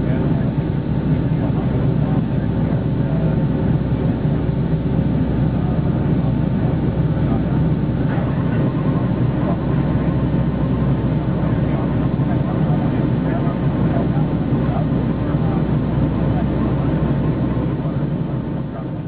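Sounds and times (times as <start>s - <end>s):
airplane cabin roar: 0.0s - 19.0s.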